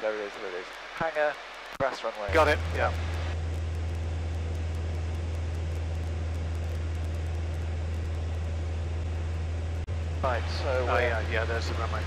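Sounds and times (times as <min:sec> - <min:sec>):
aircraft engine cabin hum: 0:02.3 - 0:12.0.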